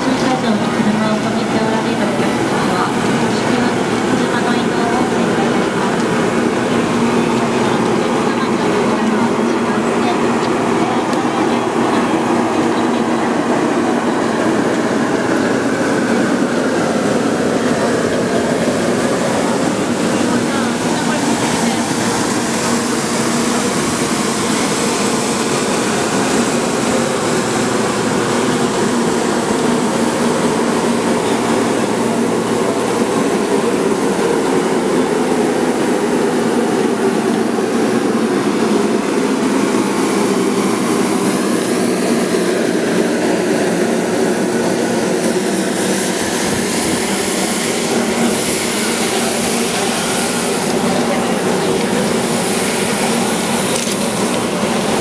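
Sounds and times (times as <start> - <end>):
train mechanical hum: 0.0 - 55.0.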